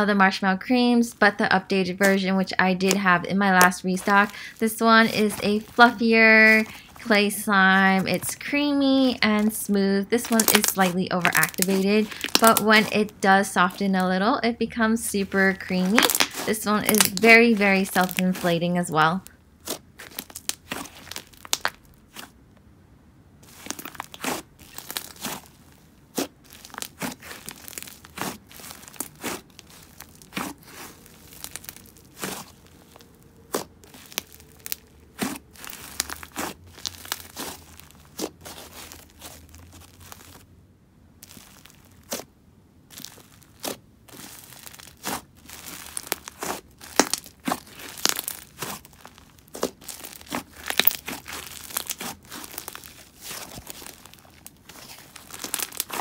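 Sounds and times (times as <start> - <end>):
hands kneading sticky slime: 0.9 - 22.5, 23.4 - 40.5, 41.2 - 56.0.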